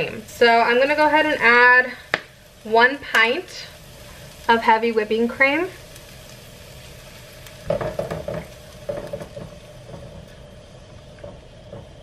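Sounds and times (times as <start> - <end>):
cream sizzling in a hot skillet: 0.0 - 12.0.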